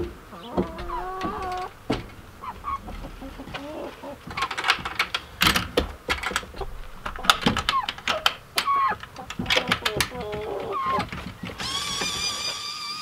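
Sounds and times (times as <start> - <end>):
hens clucking: 0.0 - 12.6
sharp clicks and knocks: 0.0 - 12.6.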